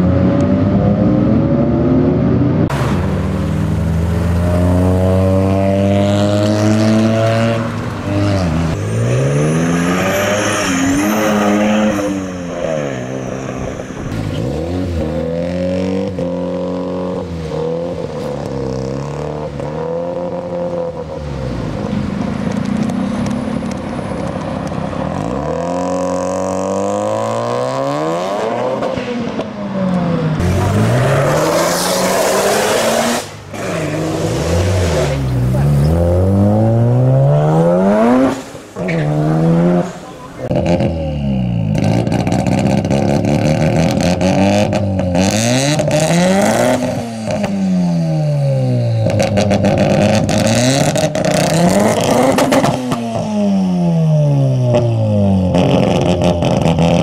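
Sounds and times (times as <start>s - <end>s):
rotary engines revving and accelerating: 0.0s - 57.0s.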